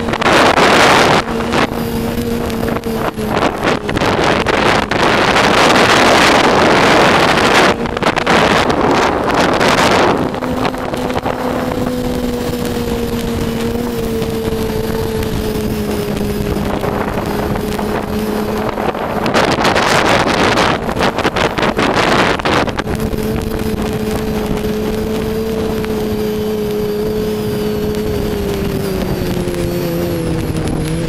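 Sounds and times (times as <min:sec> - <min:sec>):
snowmobile engine revving: 0:00.0 - 0:31.0
wind buffeting microphone: 0:00.0 - 0:31.0.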